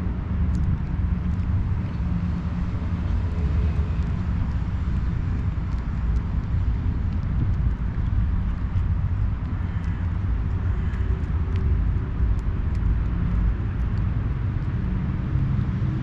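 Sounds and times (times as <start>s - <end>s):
faint background noise: 0.0s - 16.0s
low outdoor rumble: 0.0s - 16.0s.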